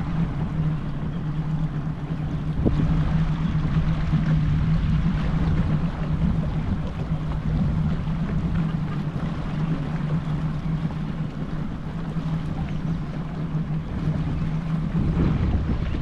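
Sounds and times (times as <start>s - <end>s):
outboard motor running: 0.0s - 16.0s
water noise: 0.0s - 16.0s
wind: 0.0s - 16.0s.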